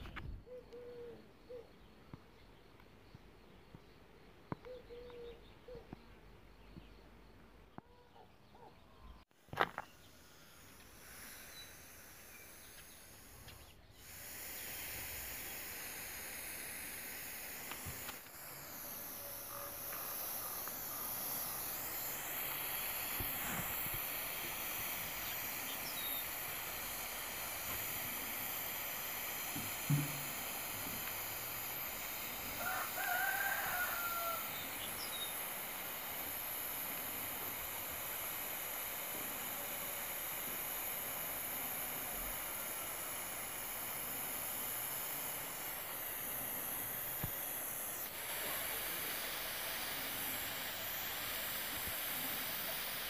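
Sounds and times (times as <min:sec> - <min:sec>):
gas torch hissing: 0:09.3 - 0:53.0.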